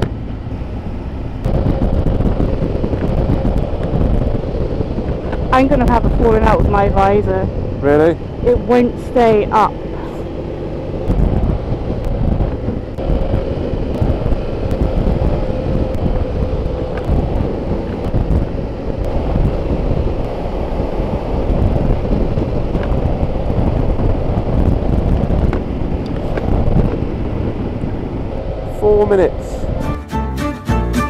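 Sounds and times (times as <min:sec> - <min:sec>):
motorcycle engine running: 0:00.0 - 0:28.8
wind buffeting microphone: 0:00.0 - 0:29.9.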